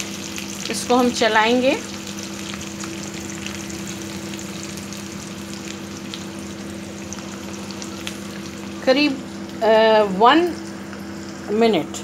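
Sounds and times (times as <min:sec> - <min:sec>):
garlic sizzling in hot oil: 0:00.0 - 0:11.8.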